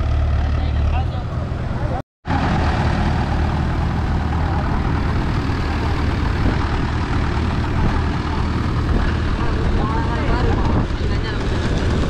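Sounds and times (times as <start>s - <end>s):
tractor engine idling: 2.3s - 12.0s.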